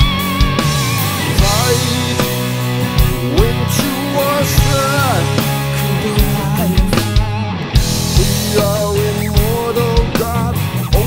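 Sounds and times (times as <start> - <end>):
bass: 0.0 - 11.0
drum beats: 0.0 - 11.0
electric guitar lead melody: 0.0 - 11.0.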